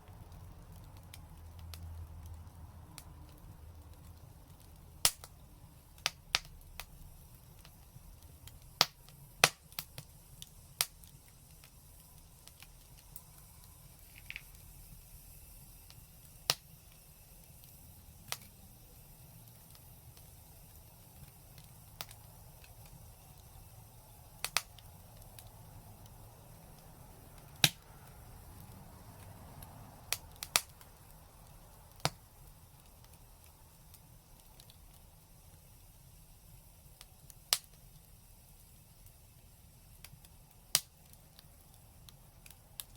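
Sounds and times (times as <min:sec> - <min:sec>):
fire crackling: 0:00.0 - 0:42.9.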